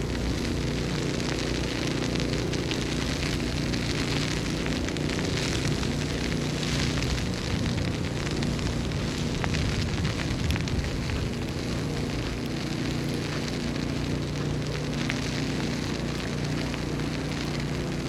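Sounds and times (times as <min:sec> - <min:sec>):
fine crackling ticks: 0:00.0 - 0:18.0
low hum: 0:00.0 - 0:18.0
steady rush of noise: 0:00.0 - 0:18.0.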